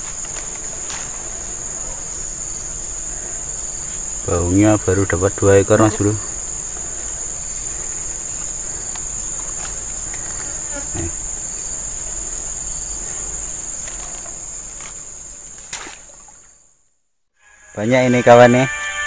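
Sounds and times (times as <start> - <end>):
insects shrilling: 0.0 - 16.8.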